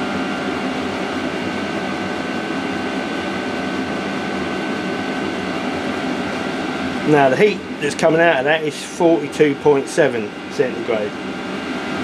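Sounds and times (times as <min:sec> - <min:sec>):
fan whir with high whine: 0:00.0 - 0:12.0.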